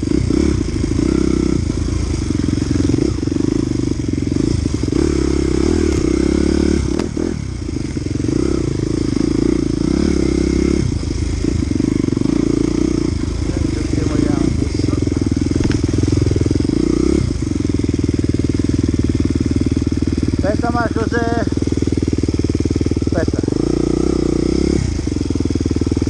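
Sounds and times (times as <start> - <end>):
bike rattling: 0.0 - 26.0
dirt bike engine revving: 0.0 - 26.0.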